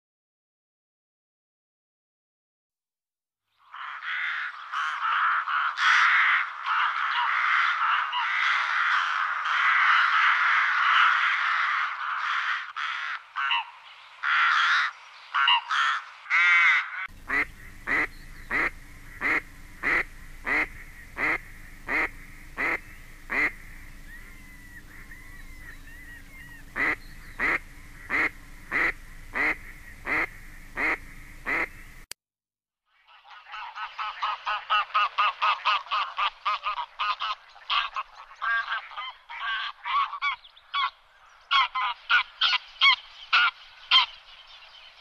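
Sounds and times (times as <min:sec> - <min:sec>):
bird calls: 0:03.5 - 0:32.1, 0:33.1 - 0:45.0
geese honking: 0:03.8 - 0:32.1, 0:33.1 - 0:44.2.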